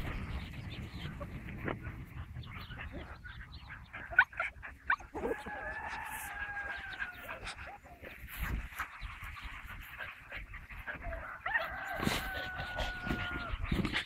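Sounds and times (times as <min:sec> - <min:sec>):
puppies yipping: 0:02.6 - 0:14.0.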